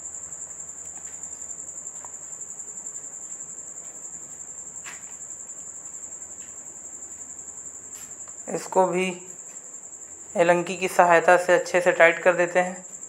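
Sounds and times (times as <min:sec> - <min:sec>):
insect chirring trill: 0:00.0 - 0:13.0.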